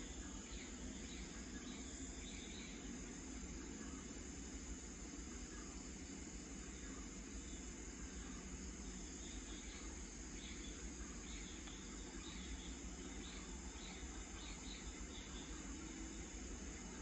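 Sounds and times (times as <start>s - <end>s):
insect chirps: 0.0s - 17.0s
insects trilling: 0.0s - 17.0s.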